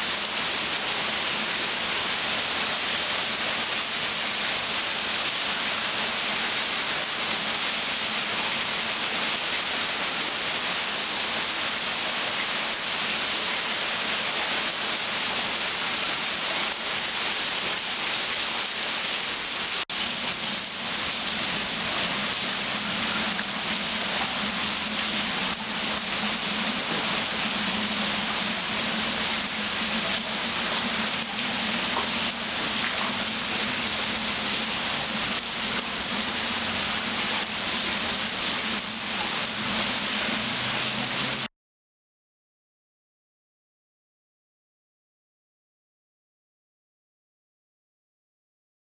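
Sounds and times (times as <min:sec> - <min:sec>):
heavy rain on water: 0:00.0 - 0:41.5.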